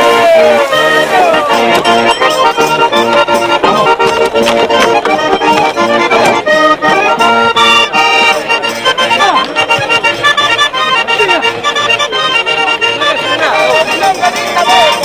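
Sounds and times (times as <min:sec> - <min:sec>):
accordion folk tune: 0:00.0 - 0:15.0.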